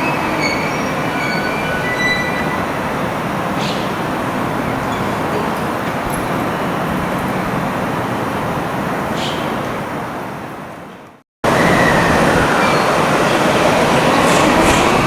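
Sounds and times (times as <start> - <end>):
train wheels rumbling: 0.0 - 10.9, 11.5 - 15.0
electric train standing noise: 0.0 - 15.0.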